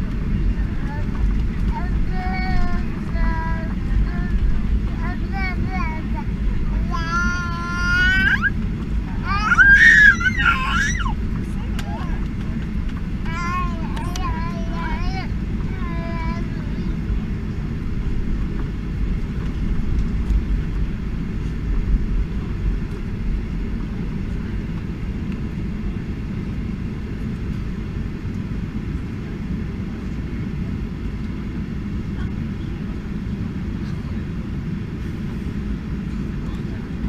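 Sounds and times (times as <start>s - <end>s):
airplane engines low rumble: 0.0s - 37.0s
wheels rolling on taxiway: 0.0s - 37.0s.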